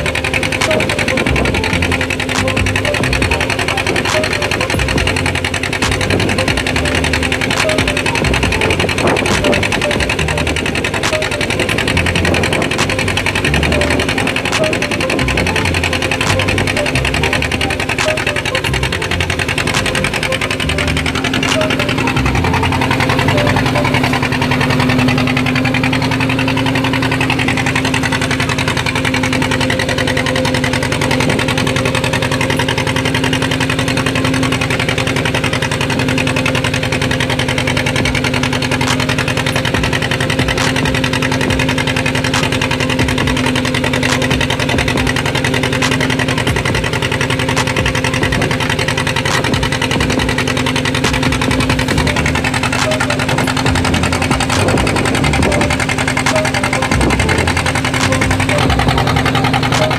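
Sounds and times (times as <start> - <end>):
boat engine chugging: 0.0 - 59.9.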